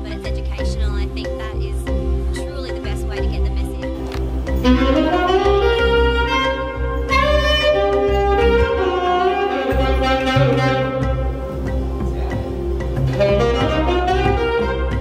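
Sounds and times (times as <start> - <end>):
backing track bass line: 0.0 - 15.0
saxophone jazzy melody: 0.0 - 15.0.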